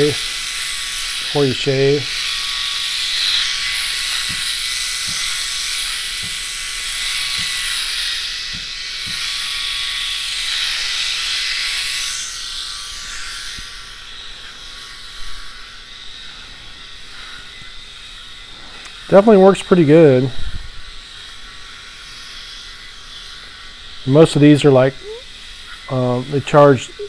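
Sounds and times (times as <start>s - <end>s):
electric shaver buzzing: 0.0s - 27.0s.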